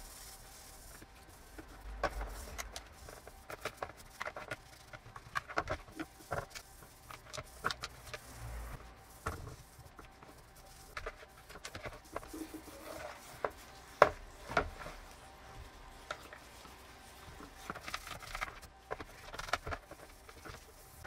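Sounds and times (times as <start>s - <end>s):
brush scrubbing plastic in water: 0.0s - 21.0s.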